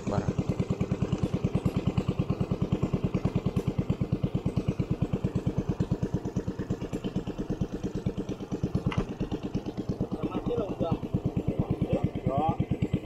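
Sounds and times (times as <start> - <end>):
boat engine pulsing: 0.0 - 13.0.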